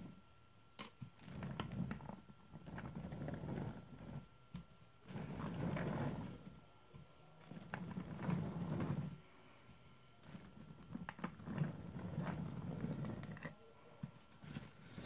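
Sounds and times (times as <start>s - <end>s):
office chair swivelling rumble: 1.2s - 6.7s, 7.4s - 9.4s, 10.2s - 15.0s.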